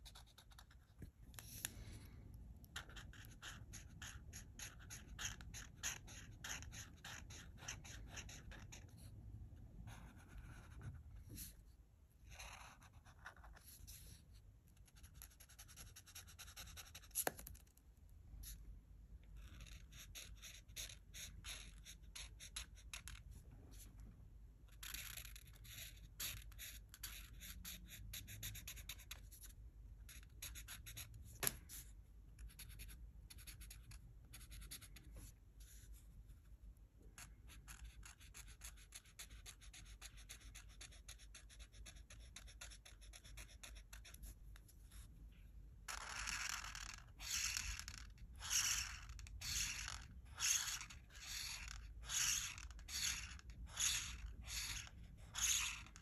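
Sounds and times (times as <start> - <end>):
marker scratching on paper: 0.0 - 2.0, 2.6 - 9.2, 9.8 - 17.7, 19.4 - 23.9, 24.7 - 36.4, 37.1 - 45.1, 45.9 - 56.0.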